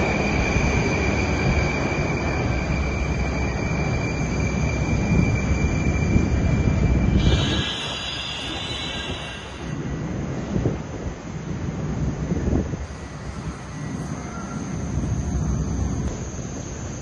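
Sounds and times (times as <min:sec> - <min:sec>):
high-pitched whine: 0:00.0 - 0:10.0, 0:12.8 - 0:17.0
metro train rumbling on track: 0:00.0 - 0:17.0.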